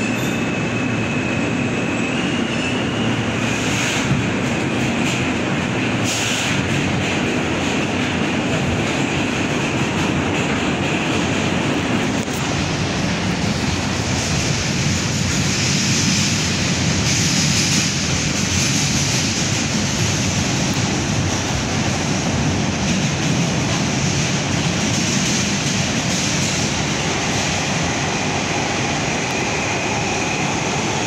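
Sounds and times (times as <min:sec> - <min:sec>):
subway train wheels on rail: 0:00.0 - 0:31.0.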